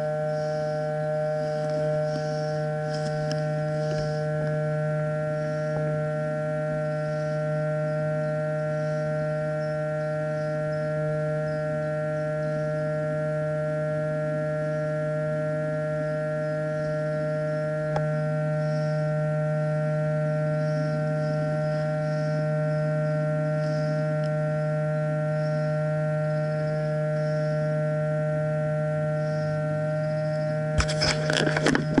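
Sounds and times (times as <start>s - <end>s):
steady multi-tone hum: 0.0s - 32.0s.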